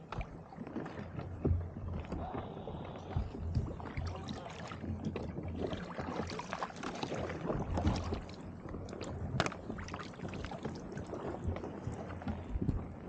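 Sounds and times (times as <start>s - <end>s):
water sloshing: 0.0s - 13.0s.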